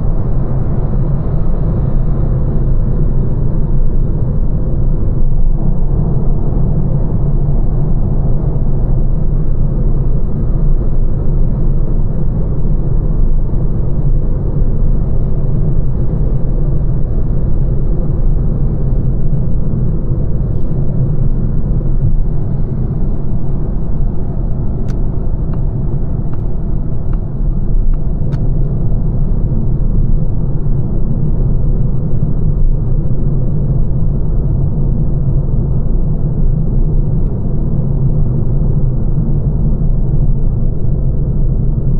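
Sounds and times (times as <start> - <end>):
car road and tyre rumble: 0.0 - 41.9.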